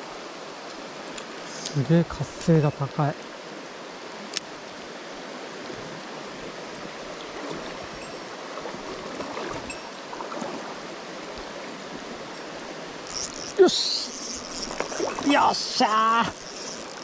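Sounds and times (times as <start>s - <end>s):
stream water rushing over rocks: 0.0s - 17.0s.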